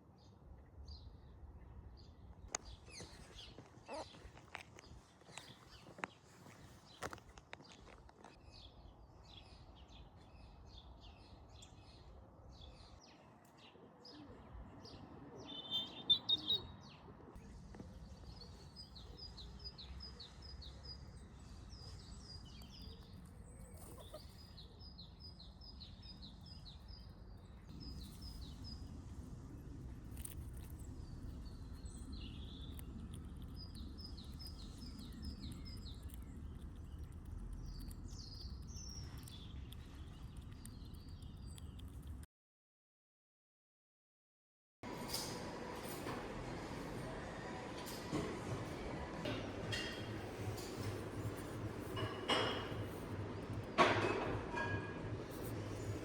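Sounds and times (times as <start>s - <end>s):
small birds chirping: 0.0s - 42.3s, 49.3s - 56.0s.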